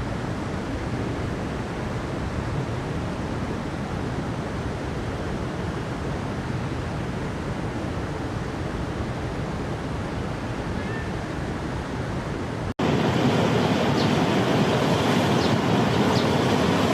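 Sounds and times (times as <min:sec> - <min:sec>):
rushing water roar: 0:00.0 - 0:16.9.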